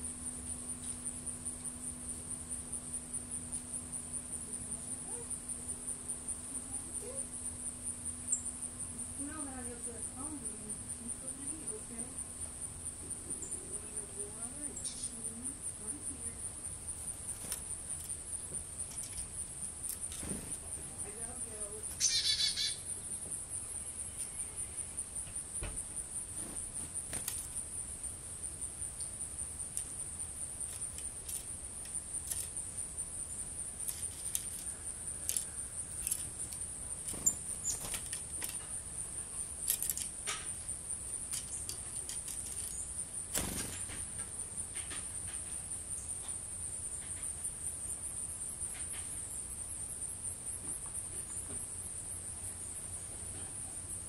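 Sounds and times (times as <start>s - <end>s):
insect trilling: 0.4s - 45.0s.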